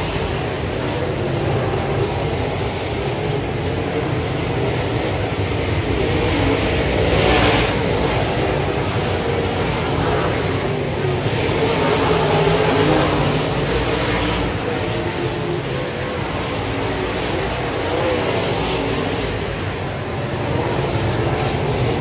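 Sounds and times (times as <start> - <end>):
race car engines running: 0.0 - 22.0
race car passing close: 0.0 - 22.0.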